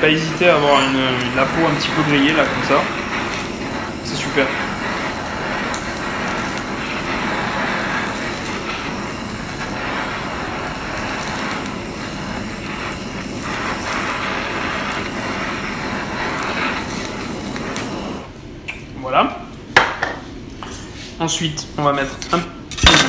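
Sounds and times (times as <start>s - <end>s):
gas blowtorch hissing: 0.0s - 19.1s.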